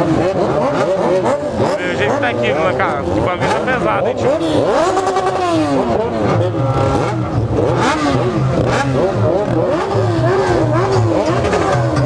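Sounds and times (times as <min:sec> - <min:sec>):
engine running steadily: 0:00.0 - 0:12.0
motorcycle engines revving: 0:00.0 - 0:12.0.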